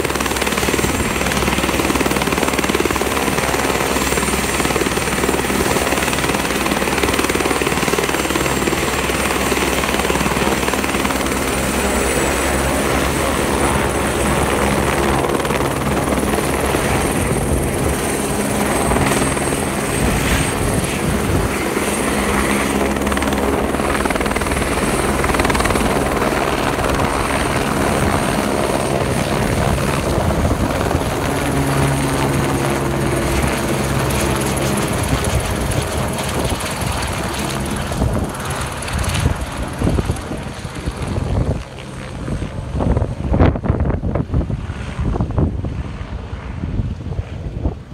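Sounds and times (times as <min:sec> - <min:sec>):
helicopter rotor noise: 0:00.0 - 0:47.9.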